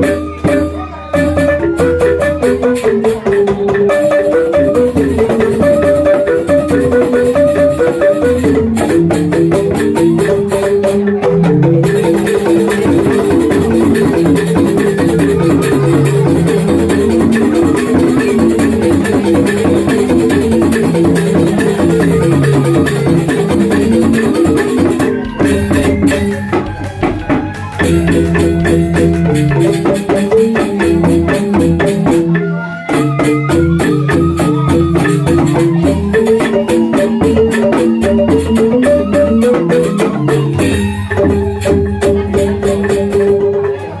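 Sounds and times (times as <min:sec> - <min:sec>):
bamboo xylophones struck rapidly: 0:00.0 - 0:44.0.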